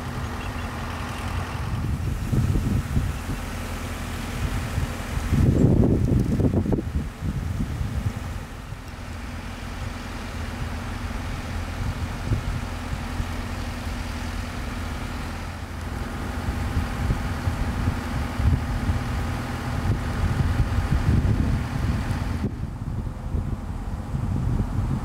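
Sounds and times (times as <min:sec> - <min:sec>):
engine running steadily: 0:00.0 - 0:25.0
wind rumbling on microphone: 0:00.0 - 0:25.0.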